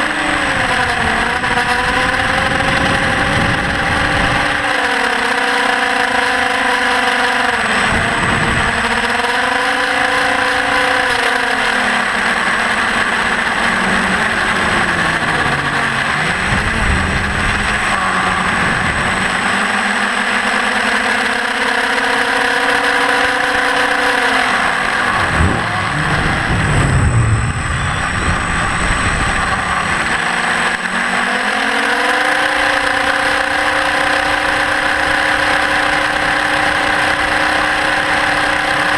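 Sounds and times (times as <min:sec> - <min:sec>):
low wind rush: 0:00.0 - 0:04.8, 0:07.5 - 0:10.8, 0:11.8 - 0:19.9, 0:23.1 - 0:38.9
electric motor and propeller whine: 0:00.0 - 0:38.9.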